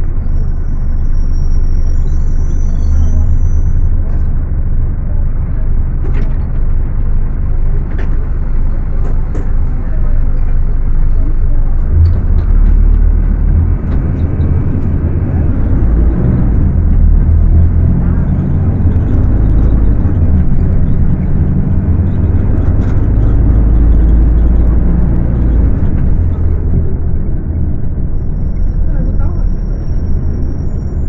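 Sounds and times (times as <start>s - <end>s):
bus diesel engine at high revs: 0.0s - 31.0s.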